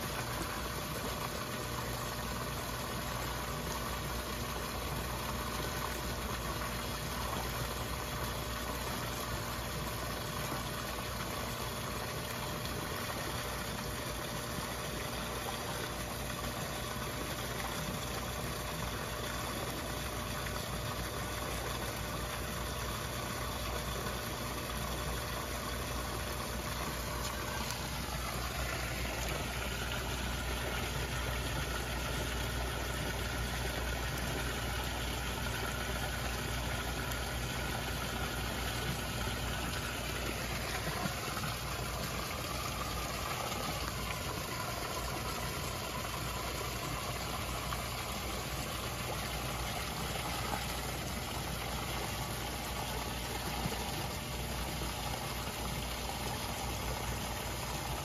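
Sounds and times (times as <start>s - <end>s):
rushing pond water: 0.0s - 58.0s.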